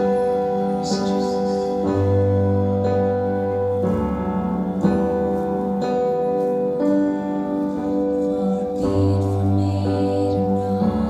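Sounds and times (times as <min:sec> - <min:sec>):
worship band playing slow song: 0:00.0 - 0:11.0.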